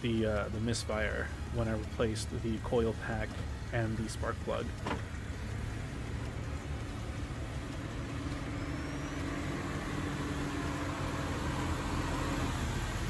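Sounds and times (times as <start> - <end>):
car engine running smoothly: 0.0 - 13.0.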